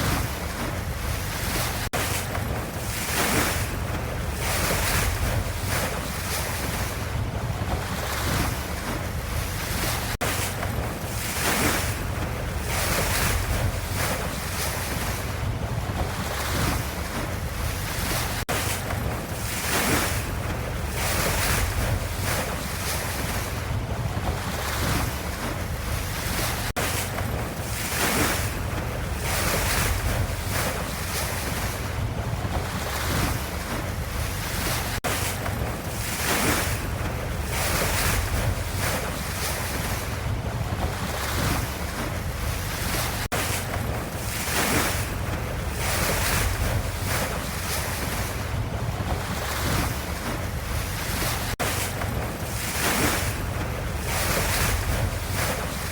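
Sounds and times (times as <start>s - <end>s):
ocean waves washing in: 0.0s - 55.9s.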